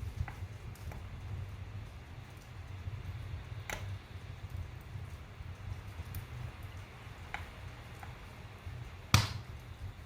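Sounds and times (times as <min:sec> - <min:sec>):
fire crackling: 0:00.0 - 0:10.0
fire low rumble: 0:00.0 - 0:10.0.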